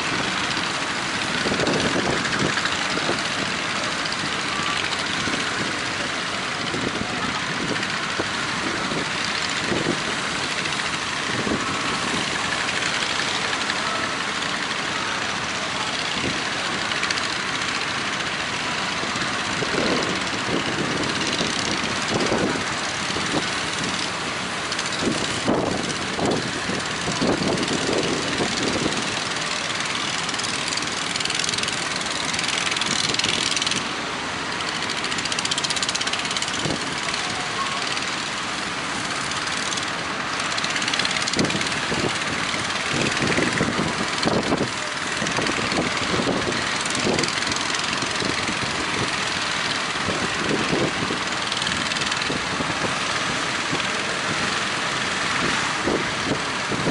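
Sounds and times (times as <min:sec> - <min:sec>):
boat engines running: 0:00.0 - 0:56.9
constant hiss: 0:00.0 - 0:56.9.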